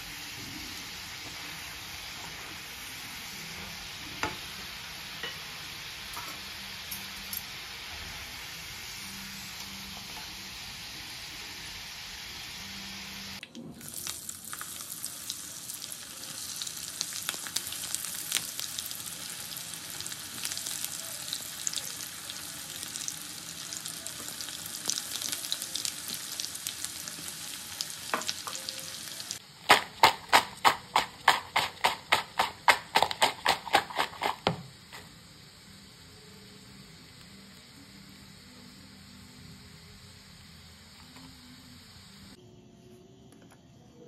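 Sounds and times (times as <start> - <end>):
food deep-frying in oil: 0.0 - 42.1.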